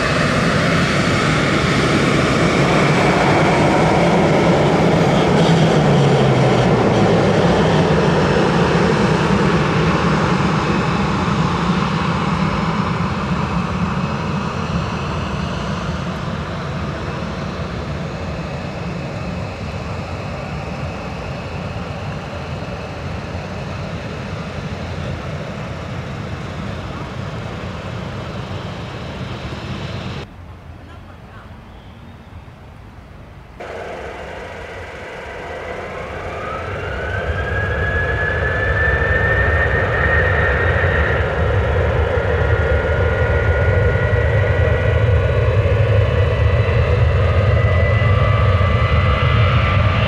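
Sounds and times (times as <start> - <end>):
jet engines running: 0.0 - 30.3, 33.4 - 50.0.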